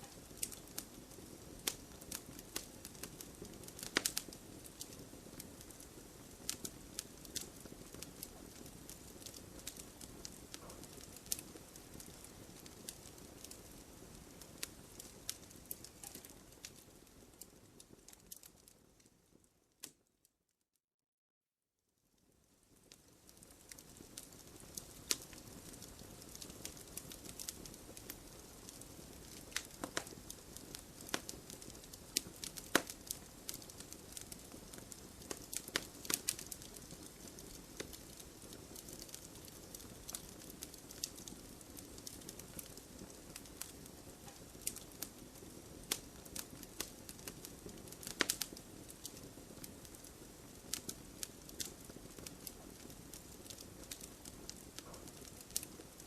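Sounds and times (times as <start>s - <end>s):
burning wood crackling: 0.0s - 19.0s, 22.4s - 56.0s
campfire flame rushing: 0.1s - 16.6s, 23.3s - 56.0s.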